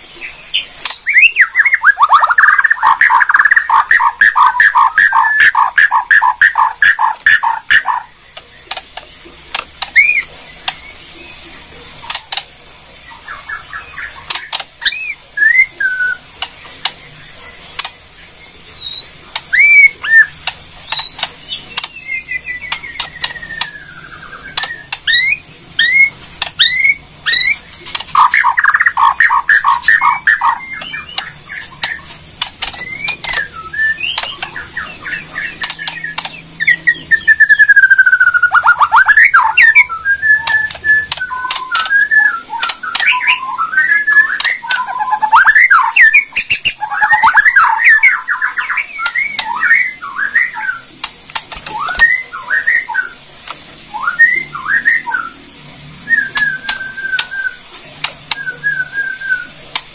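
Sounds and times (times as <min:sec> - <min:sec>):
bird singing clicking and whistles: 0:00.0 - 0:10.9, 0:12.0 - 0:12.5, 0:13.1 - 0:18.0, 0:18.8 - 0:55.4, 0:56.1 - 0:59.9.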